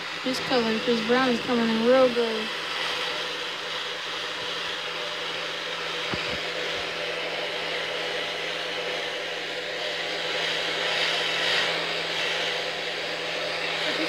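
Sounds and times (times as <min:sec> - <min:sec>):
hair dryer humming: 0:00.0 - 0:14.0.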